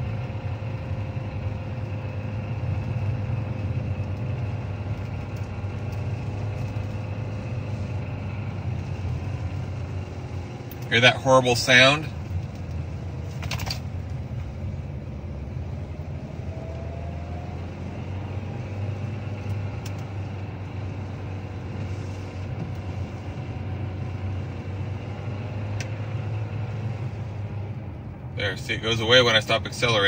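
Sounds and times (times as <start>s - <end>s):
car engine drone from inside cabin: 0.0s - 30.0s.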